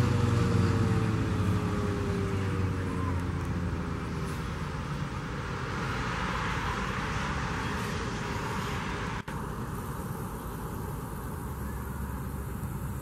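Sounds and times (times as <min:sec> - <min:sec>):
steady rushing background noise: 0:00.9 - 0:13.0.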